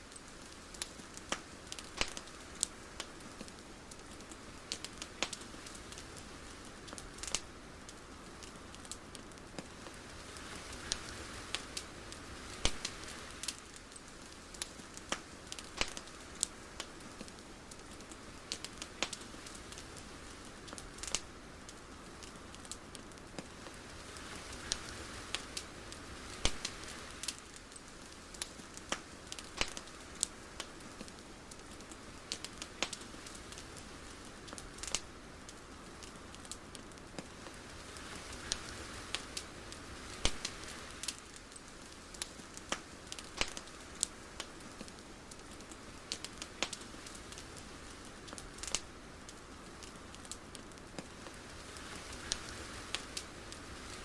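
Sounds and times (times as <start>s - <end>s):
sharp crackles and clicks: 0.0s - 54.0s
soft steady hiss: 0.0s - 54.0s.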